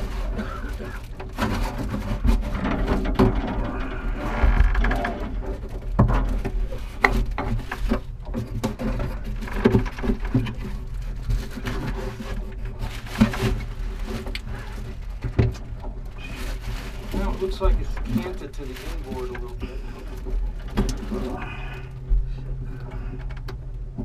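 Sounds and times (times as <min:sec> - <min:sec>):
knocks and rattles of gear: 0:00.0 - 0:24.0
low hum: 0:00.0 - 0:24.0.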